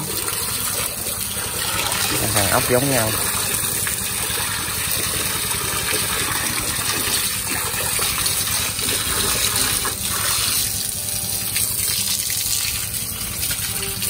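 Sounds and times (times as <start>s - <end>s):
water pouring and splashing: 0.0s - 14.0s.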